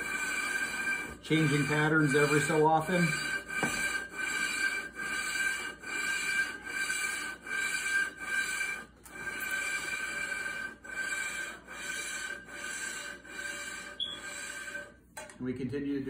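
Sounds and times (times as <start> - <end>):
metal grinding on metal: 0.0 - 15.0.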